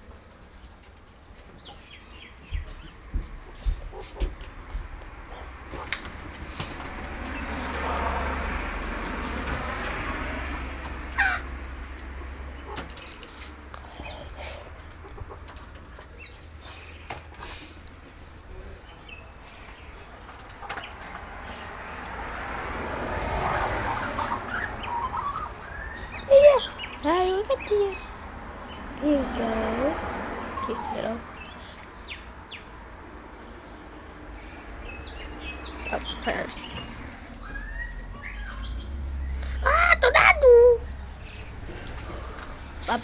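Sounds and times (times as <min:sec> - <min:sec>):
birds chattering: 0:00.0 - 0:43.0.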